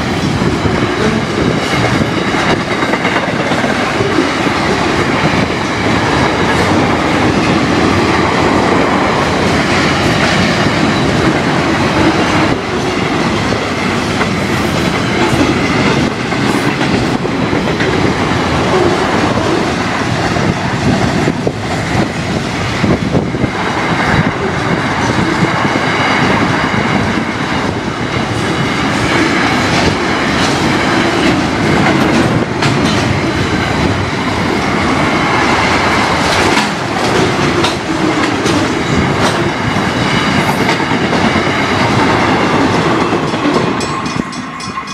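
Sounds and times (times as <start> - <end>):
steel wheels rumbling on rails: 0.0 - 44.9
wheels clicking over rail joints: 1.0 - 18.9, 23.5 - 44.9.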